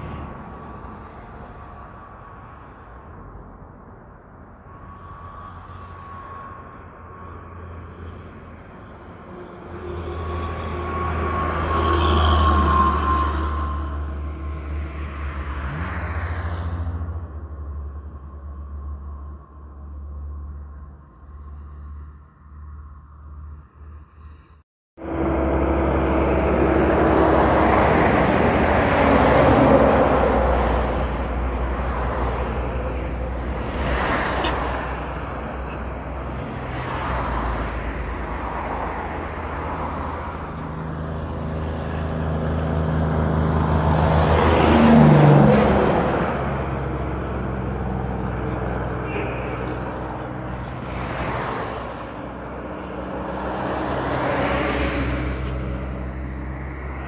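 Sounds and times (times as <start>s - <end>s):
truck diesel engines droning: 0.0s - 57.0s.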